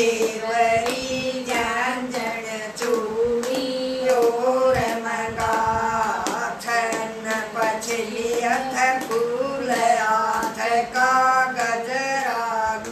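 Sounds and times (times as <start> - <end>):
hand claps: 0.0 - 12.9
women singing together: 0.0 - 12.9.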